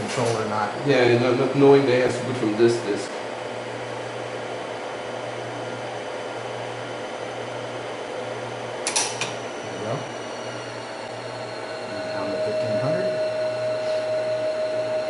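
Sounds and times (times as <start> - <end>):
computer disk drive whirring: 0.0 - 15.0.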